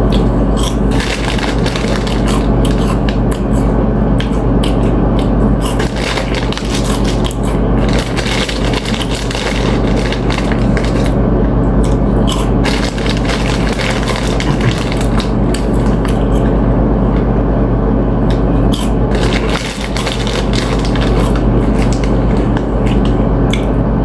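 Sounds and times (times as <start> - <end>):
chewing and crunching chips: 0.0 - 17.4, 18.2 - 23.8
low hum: 0.0 - 24.0.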